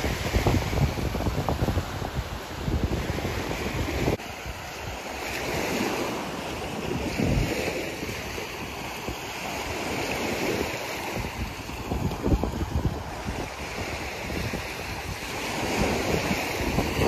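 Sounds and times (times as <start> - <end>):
sea waves breaking: 0.0 - 17.0
wind buffeting microphone: 0.0 - 17.0.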